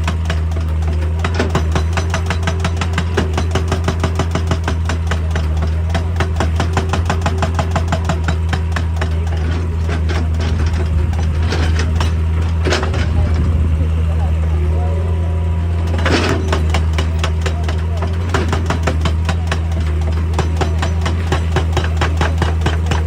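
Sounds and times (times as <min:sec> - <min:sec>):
hydraulic hammer pounding rock: 0:00.0 - 0:13.7, 0:15.7 - 0:23.0
diesel engine humming: 0:00.0 - 0:23.0.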